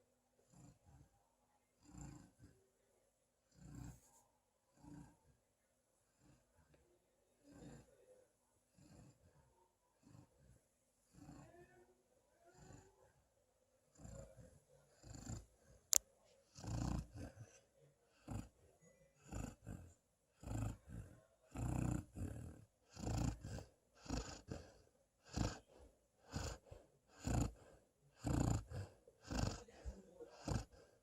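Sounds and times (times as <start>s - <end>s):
dog snoring: 0.4s - 1.1s, 1.8s - 2.6s, 3.5s - 5.4s, 6.1s - 6.5s, 7.4s - 8.0s, 8.7s - 11.8s, 12.4s - 13.0s, 13.9s - 31.0s.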